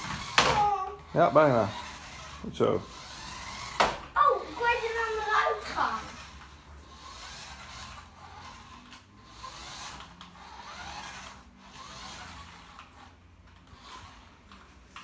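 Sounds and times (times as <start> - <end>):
toy car electric motor whirring: 0.0 - 15.0.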